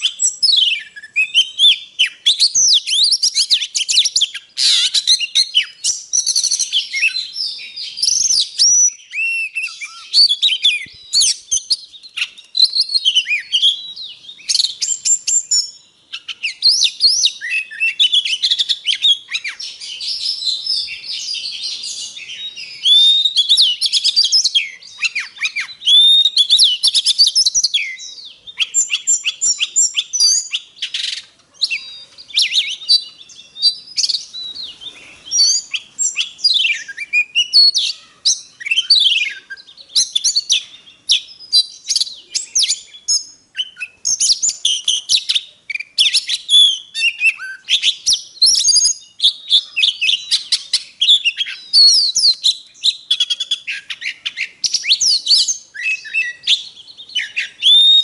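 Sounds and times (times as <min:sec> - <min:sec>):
bird singing varied whistles: 0:00.0 - 0:58.0.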